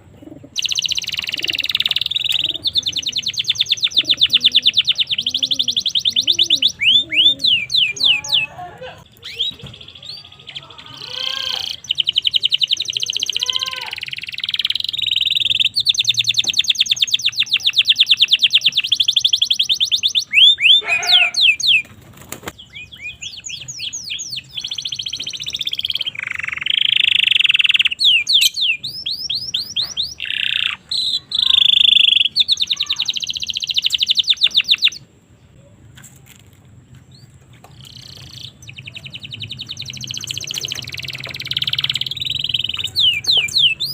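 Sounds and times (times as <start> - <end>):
canary singing: 0.0 - 35.6, 37.1 - 43.9.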